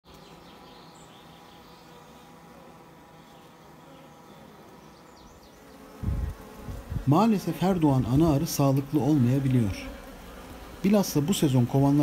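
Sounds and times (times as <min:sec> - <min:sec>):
honeybees buzzing: 0:00.1 - 0:12.0.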